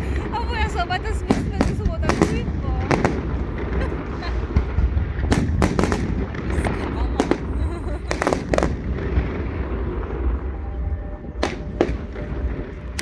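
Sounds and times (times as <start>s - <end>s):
fireworks bangs: 0.0s - 13.0s
steady low rumble: 0.0s - 13.0s.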